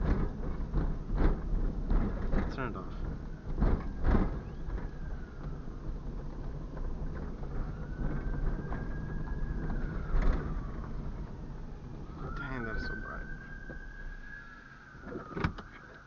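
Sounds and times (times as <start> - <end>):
engine and road noise: 0.0 - 16.0.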